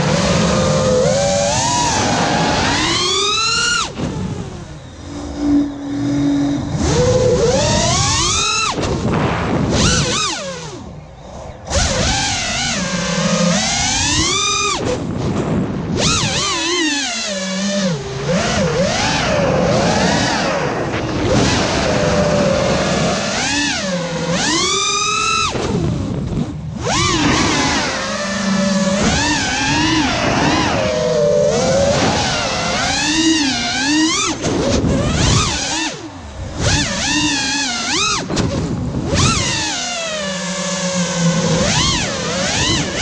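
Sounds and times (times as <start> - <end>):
quadcopter motors whining: 0.0 - 43.0.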